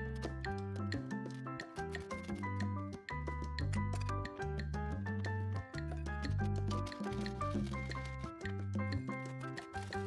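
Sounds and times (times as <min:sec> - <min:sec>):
light regular ticks: 0:00.0 - 0:10.0.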